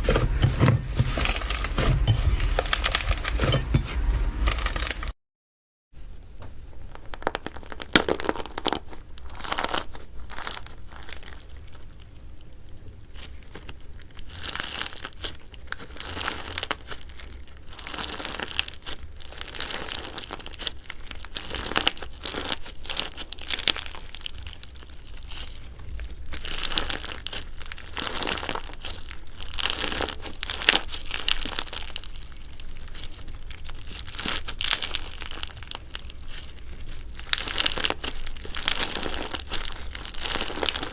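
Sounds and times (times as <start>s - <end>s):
slime crackling and squelching: 0.0s - 5.2s, 6.7s - 40.9s.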